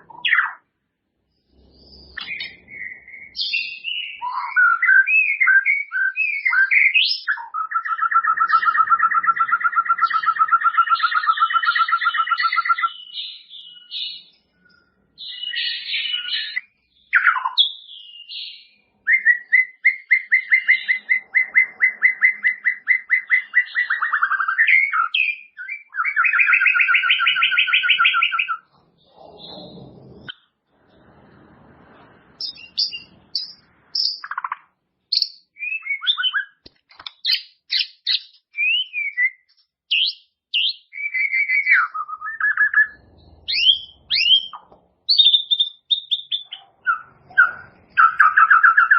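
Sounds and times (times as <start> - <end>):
bird singing whistled phrases: 1.6 - 28.7, 32.4 - 36.6, 37.2 - 48.9.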